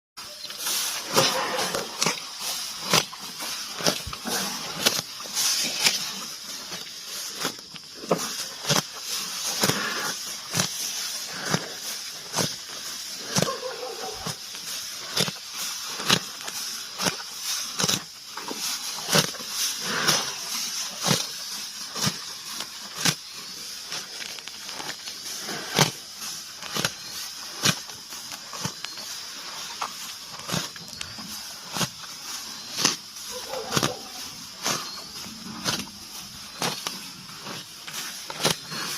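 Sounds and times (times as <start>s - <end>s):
grass being torn off: 0.4s - 38.9s.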